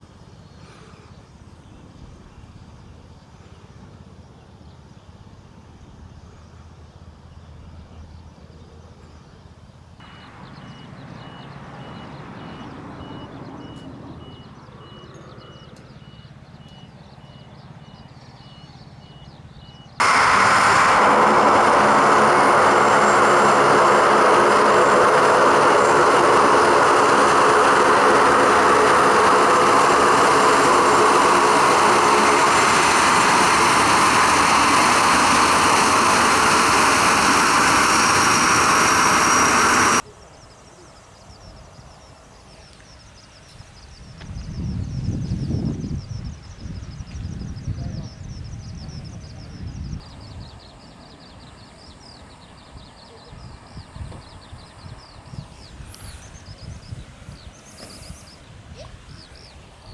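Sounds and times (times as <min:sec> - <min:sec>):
military aircraft engines running: 0:00.0 - 0:59.9.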